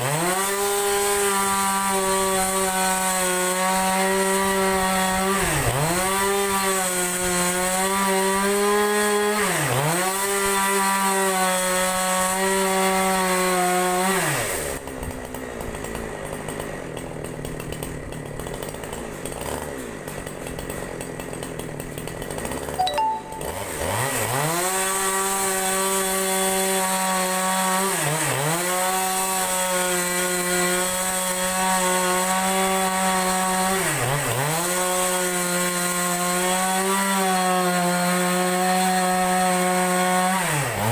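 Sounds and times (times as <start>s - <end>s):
chainsaw running: 0.0s - 40.9s.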